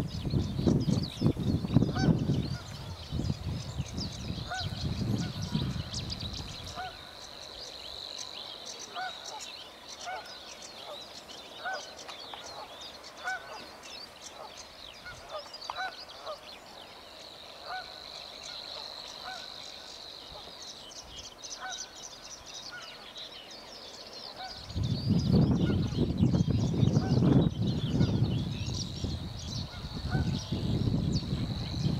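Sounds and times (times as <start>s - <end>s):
small birds chattering songs: 0.0s - 31.9s
warbler buzzing reel song: 0.0s - 31.9s.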